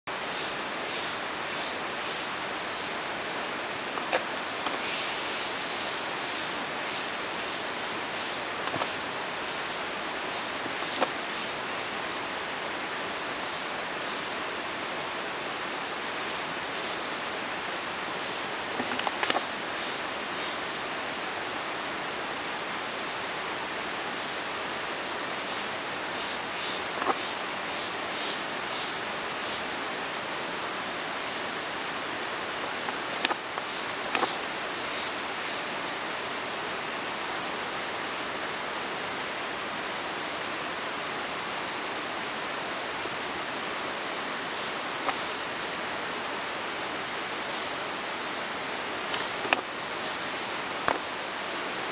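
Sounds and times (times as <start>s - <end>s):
steady rushing hiss: 0.1s - 51.9s.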